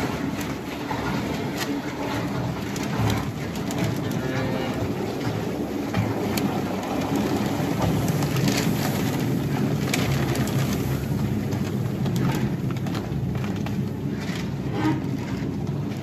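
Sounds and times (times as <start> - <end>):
mixing tank agitator churning: 0.0 - 16.0
paper sack crackling: 0.0 - 16.0.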